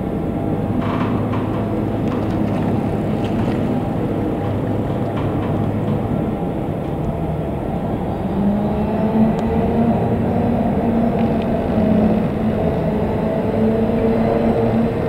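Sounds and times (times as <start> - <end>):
heavy machinery humming: 0.0 - 15.0.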